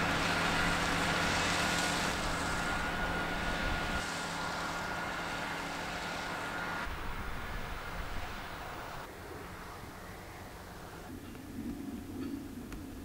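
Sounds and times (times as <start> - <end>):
tractor diesel engine running: 0.0 - 11.3.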